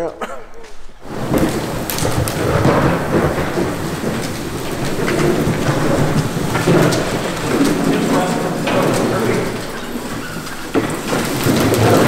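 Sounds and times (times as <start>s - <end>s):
debris crackling: 0.0s - 12.0s
push sweeper rolling on concrete: 0.9s - 12.0s.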